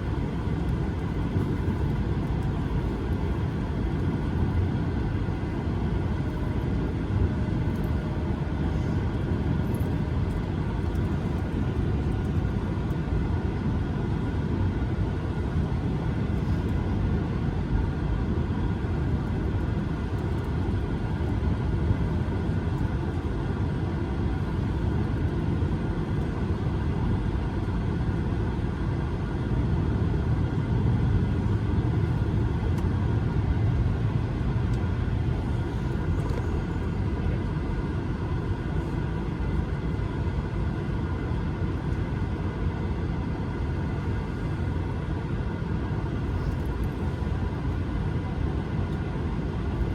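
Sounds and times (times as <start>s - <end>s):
jet engines humming in cabin: 0.0s - 49.9s.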